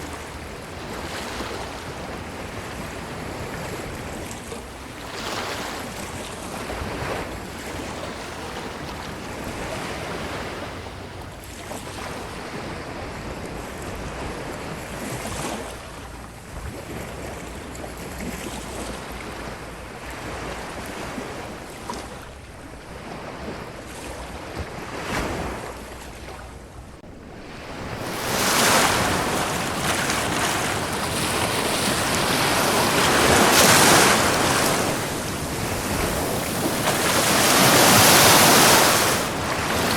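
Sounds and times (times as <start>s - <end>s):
ocean surf washing on beach: 0.0s - 39.9s.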